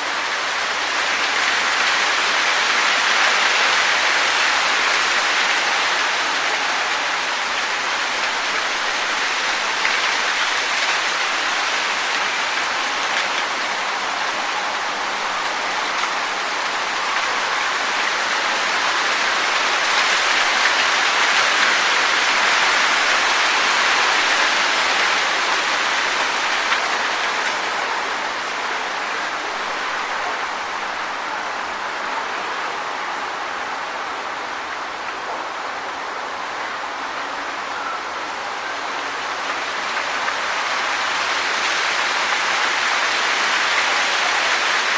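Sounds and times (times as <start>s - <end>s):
wind rustling leaves: 0.0s - 44.9s.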